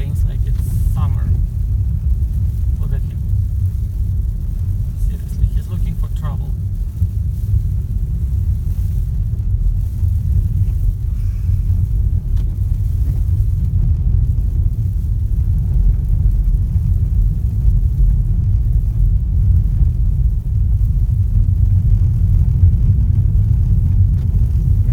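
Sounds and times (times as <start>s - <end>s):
car engine and road noise: 0.0s - 24.9s.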